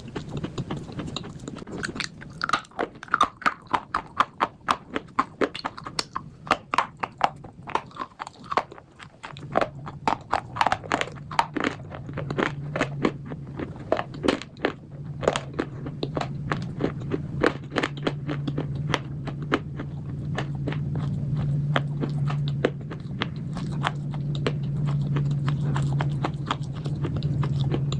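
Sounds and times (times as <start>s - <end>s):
crunchy chewing: 0.0s - 27.9s
low hum: 0.0s - 27.9s.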